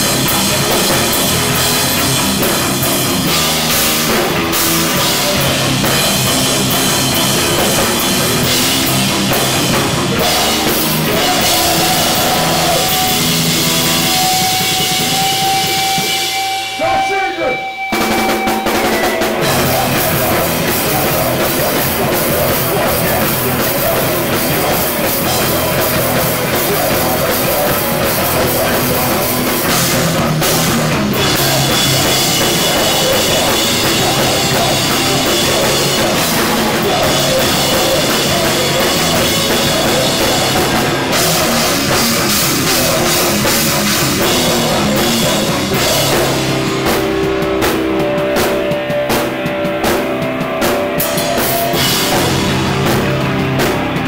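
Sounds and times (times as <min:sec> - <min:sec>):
hardcore punk music: 0:00.0 - 0:54.0.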